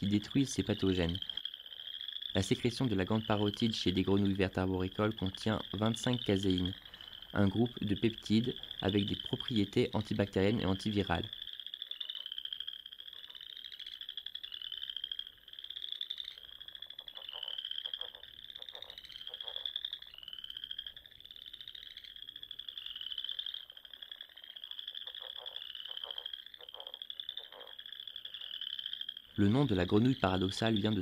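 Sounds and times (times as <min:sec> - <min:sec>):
frogs high trilling calls: 0:00.0 - 0:31.0
frogs low rapid croaks: 0:00.0 - 0:31.0.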